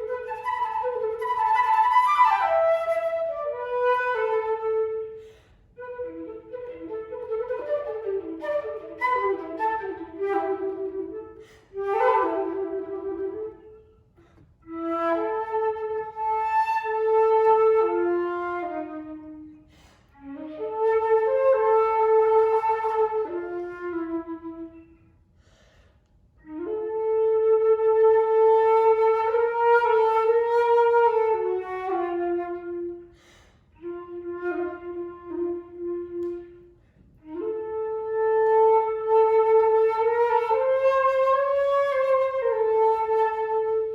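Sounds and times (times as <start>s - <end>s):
solo flute melody: 0.0s - 25.2s, 26.4s - 43.9s.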